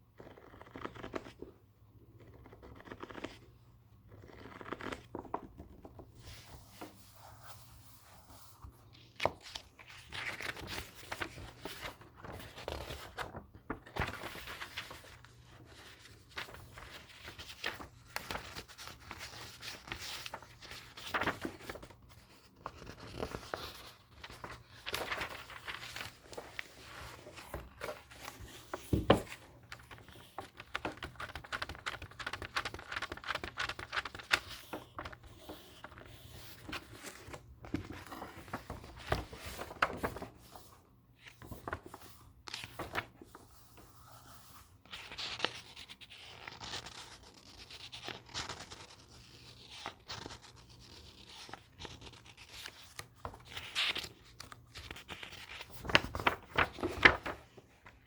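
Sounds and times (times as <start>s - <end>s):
book pages rustling and turning: 2.2s - 58.0s.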